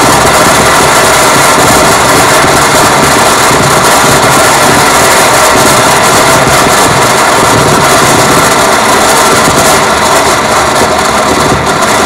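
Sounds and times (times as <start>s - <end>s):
dense electronic noise: 0.0s - 12.0s.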